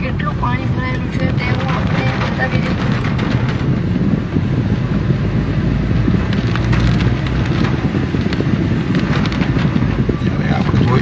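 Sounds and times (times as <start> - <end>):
tyre noise on flooded road: 0.0 - 11.0
rain drumming on car body: 0.4 - 11.0.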